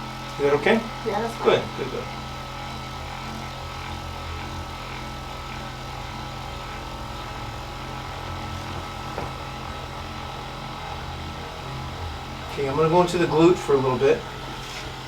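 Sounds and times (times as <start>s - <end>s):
electric massager buzzing: 0.0s - 15.0s.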